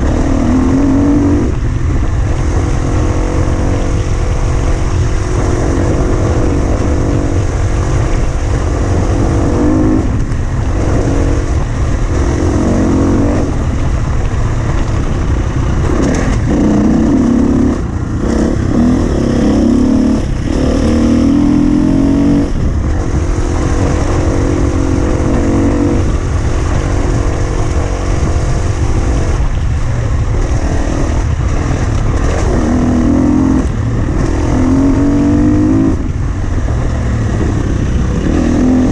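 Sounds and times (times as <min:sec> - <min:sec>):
low rumble: 0:00.0 - 0:38.9
motorcycle engine revving: 0:00.0 - 0:38.9.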